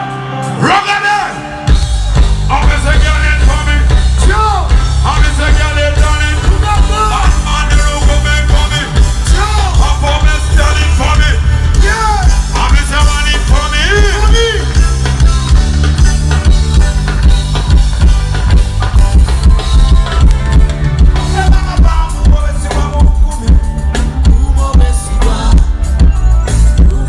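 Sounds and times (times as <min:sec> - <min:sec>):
heavy bass line: 0:01.4 - 0:27.0
steady drum beat: 0:01.6 - 0:27.0.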